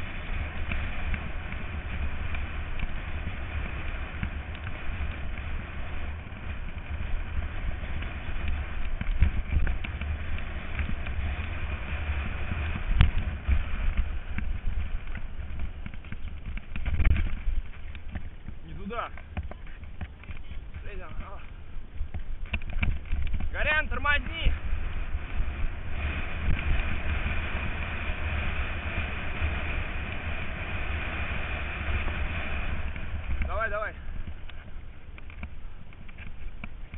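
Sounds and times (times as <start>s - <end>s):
bike rattling and knocking: 0.0s - 36.9s
steady rumble: 0.0s - 36.9s
wind buffeting microphone: 0.0s - 36.9s.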